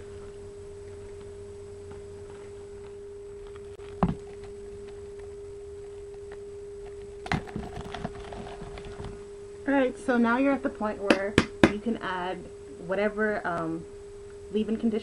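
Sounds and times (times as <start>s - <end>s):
faint mid-pitched hum: 0.0s - 15.0s.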